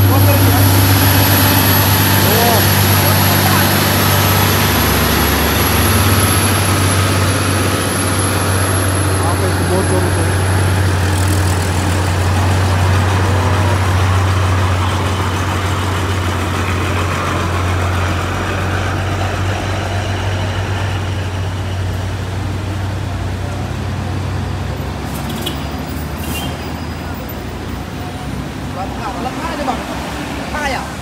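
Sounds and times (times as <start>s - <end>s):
heavy truck engine running: 0.0s - 31.0s.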